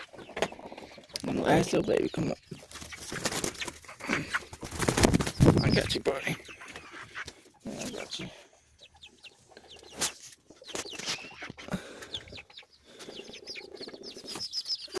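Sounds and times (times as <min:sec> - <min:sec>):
chickens peeping and clucking: 0:00.0 - 0:15.0.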